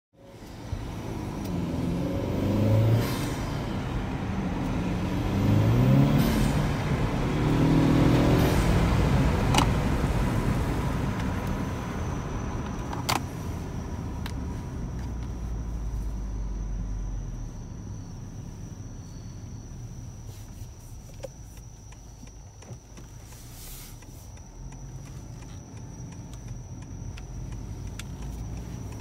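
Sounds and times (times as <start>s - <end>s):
car engine accelerating: 0.2s - 29.0s.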